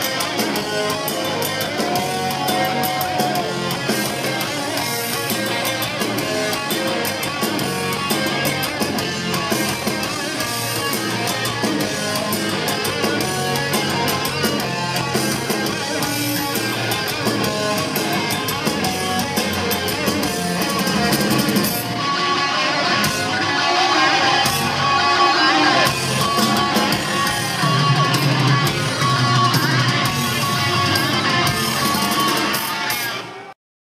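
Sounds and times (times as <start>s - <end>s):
bending lead guitar notes: 0.0s - 33.5s
live heavy metal band: 0.0s - 33.6s.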